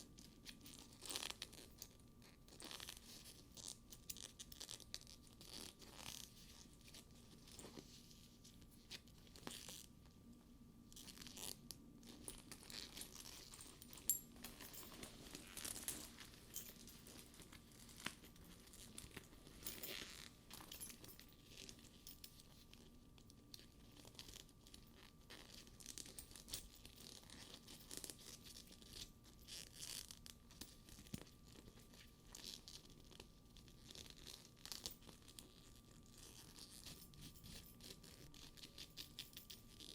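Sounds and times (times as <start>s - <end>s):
fingers rustling on a purse: 0.0s - 10.2s, 10.9s - 39.9s.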